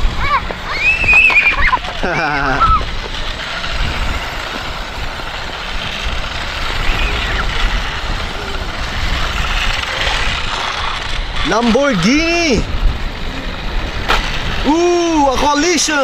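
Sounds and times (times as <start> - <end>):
toy car motors whirring: 0.0 - 16.0
tyres rolling on pavement: 0.0 - 16.0.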